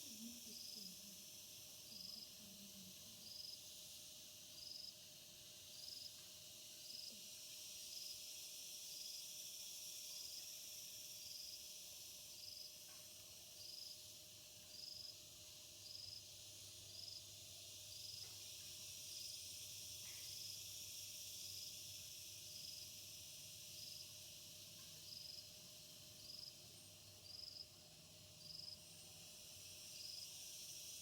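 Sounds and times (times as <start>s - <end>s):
cricket chirping: 0.0s - 31.0s
steady high hiss: 0.0s - 31.0s.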